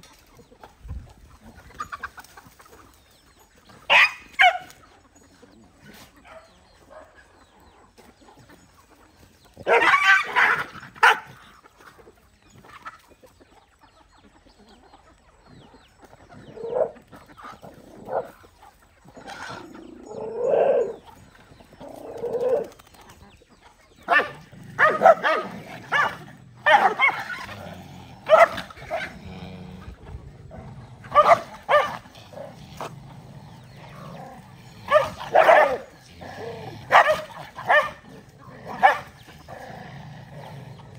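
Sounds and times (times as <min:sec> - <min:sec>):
dogs barking and snarling: 0:00.0 - 0:40.9.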